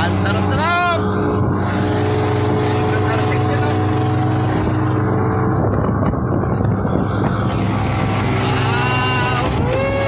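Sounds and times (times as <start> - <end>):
boat engine droning: 0.0 - 10.0
continuous rushing noise: 0.0 - 10.0.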